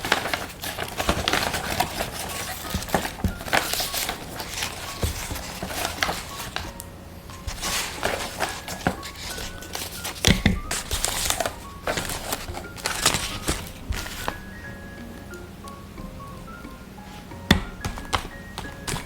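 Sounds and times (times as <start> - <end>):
paper crinkling and rustling: 0.0 - 14.8, 17.0 - 19.0
faint background music: 0.0 - 19.0.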